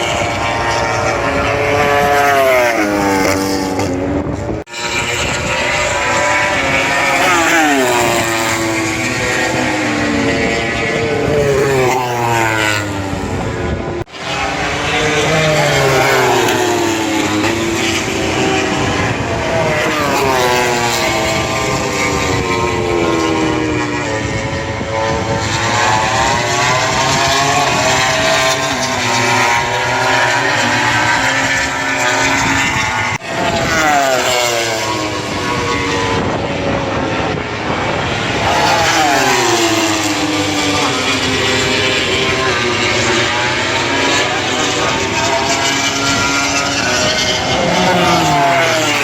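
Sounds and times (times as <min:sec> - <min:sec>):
race motorcycles passing at full throttle: 0:00.0 - 0:49.0.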